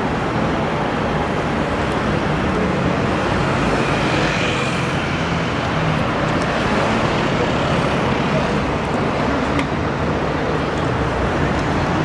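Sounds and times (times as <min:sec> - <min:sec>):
city traffic passing: 0:00.0 - 0:12.0.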